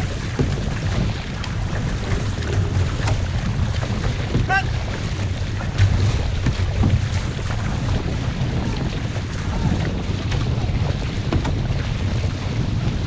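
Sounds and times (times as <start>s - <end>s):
paddle splashes: 0.0s - 13.0s
water washing along canoe hull: 0.0s - 13.0s
wind buffeting microphone: 0.0s - 13.0s.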